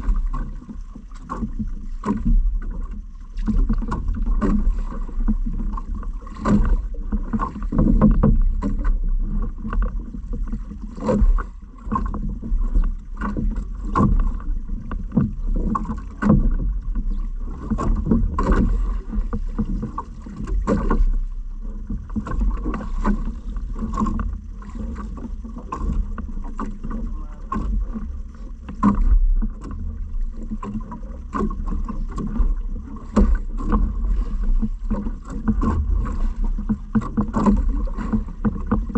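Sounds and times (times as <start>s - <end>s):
knocks from a small boat: 0.0s - 38.9s
water sloshing: 0.0s - 38.9s
wind rumble on microphone: 0.0s - 38.9s.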